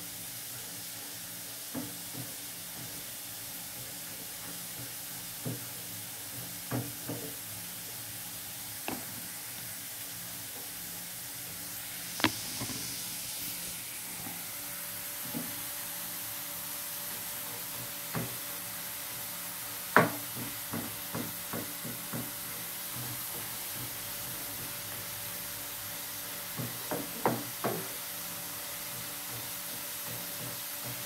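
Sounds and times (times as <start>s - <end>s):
frying hiss: 0.0s - 31.0s.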